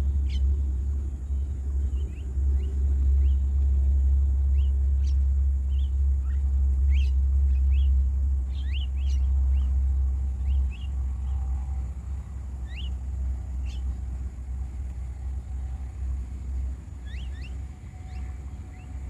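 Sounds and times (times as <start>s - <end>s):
birds chirping: 0.0s - 19.0s
loud steady low rumble: 0.0s - 19.0s.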